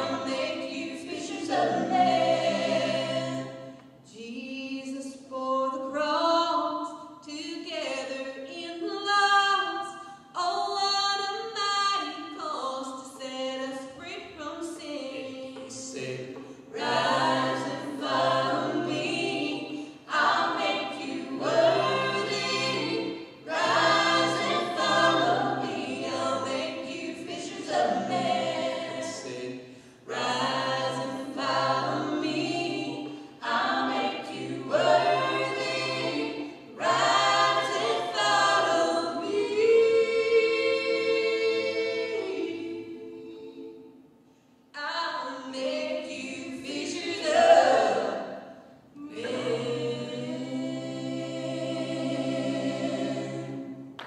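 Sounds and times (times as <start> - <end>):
mixed voices singing a cappella: 0.0 - 44.2, 44.8 - 54.0.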